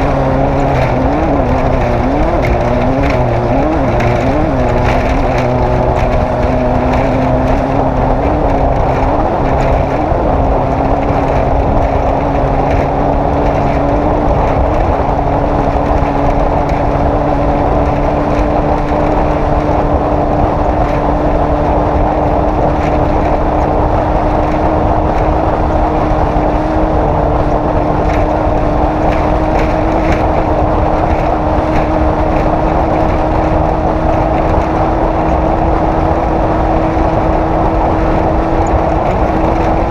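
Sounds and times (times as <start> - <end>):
race vehicle engine running hard: 0.0 - 39.9
rough rumble: 0.0 - 39.9
wind noise: 0.0 - 39.9.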